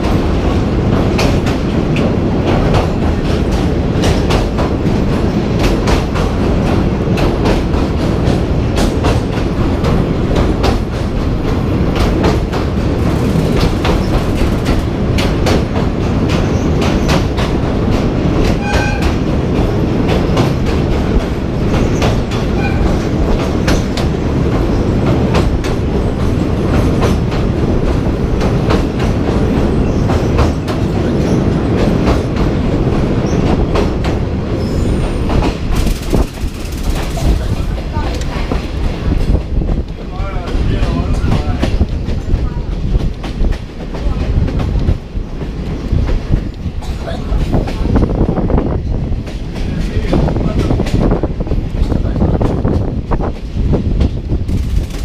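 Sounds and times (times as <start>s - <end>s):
train rumbling along track: 0.0s - 55.0s
train wheels clacking on rails: 0.0s - 55.0s.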